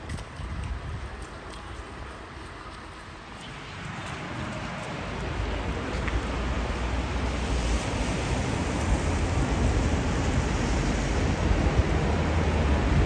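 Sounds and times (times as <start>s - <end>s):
street and traffic noise: 0.0s - 13.0s
wind buffeting microphone: 0.0s - 13.0s.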